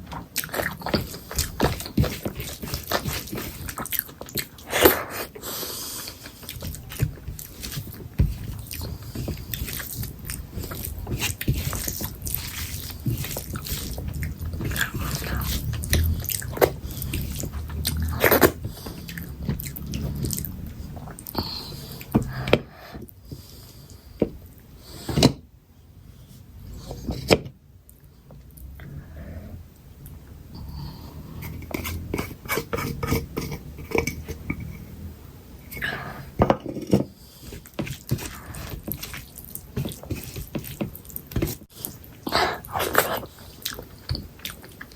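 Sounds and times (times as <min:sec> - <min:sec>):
person chewing food: 0:00.0 - 0:24.1, 0:30.0 - 0:34.9, 0:35.6 - 0:44.9.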